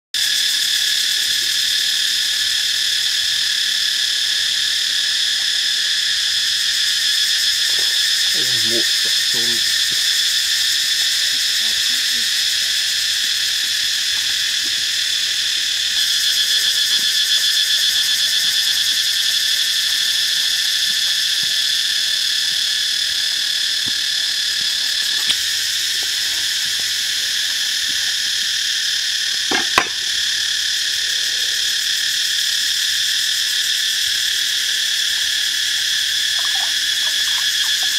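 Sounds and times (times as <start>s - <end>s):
insects droning: 0.2s - 37.9s.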